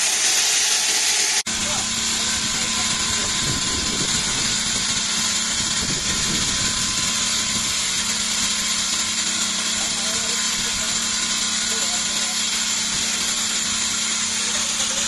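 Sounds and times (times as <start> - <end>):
constant saw hum: 0.0 - 15.0
stone saw cutting hiss: 0.0 - 15.0.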